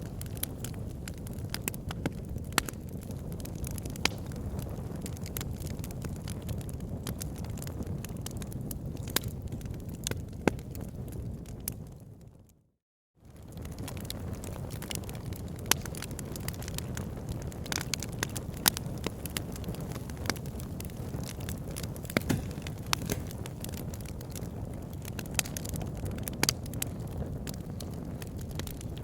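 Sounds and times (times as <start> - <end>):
wood fire crackling: 0.0 - 12.0, 13.3 - 29.0.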